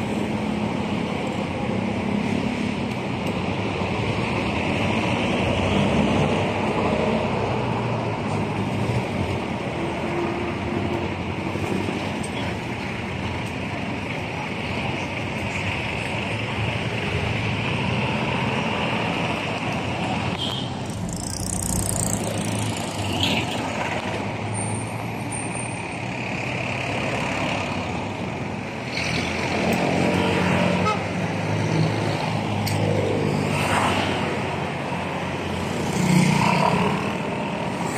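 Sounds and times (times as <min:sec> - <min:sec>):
vehicles passing with engines running: 0:00.0 - 0:37.9.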